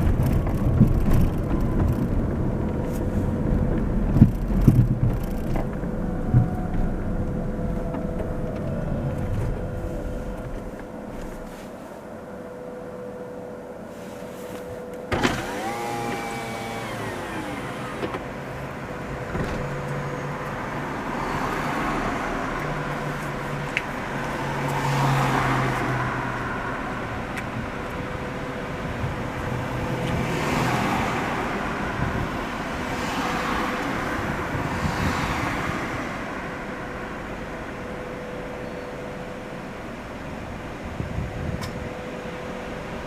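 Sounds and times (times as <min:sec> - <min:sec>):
car engine hum: 0:00.0 - 0:43.0
road noise: 0:00.0 - 0:43.0.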